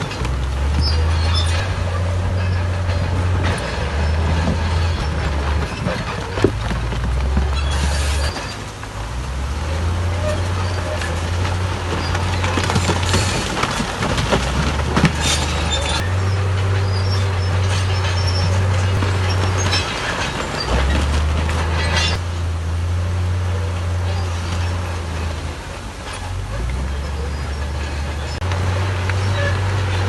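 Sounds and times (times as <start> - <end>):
bulldozer diesel engine under load: 0.0 - 30.0
metallic squealing and clanking: 0.0 - 30.0.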